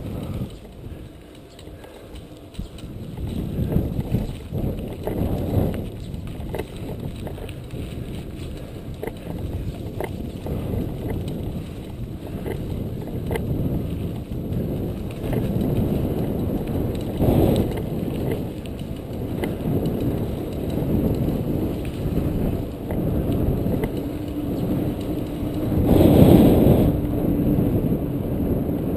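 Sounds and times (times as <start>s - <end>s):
bike clicks and rattles: 0.0s - 28.9s
tyre and road rumble: 0.0s - 28.9s
wind on microphone: 0.0s - 28.9s.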